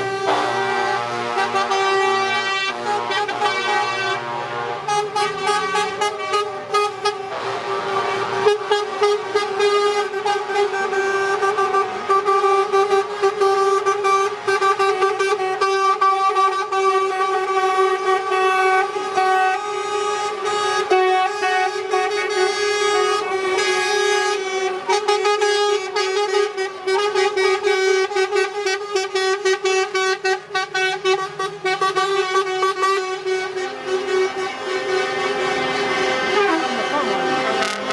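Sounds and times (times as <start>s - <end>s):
lorry air horns blasting: 0.0s - 37.9s.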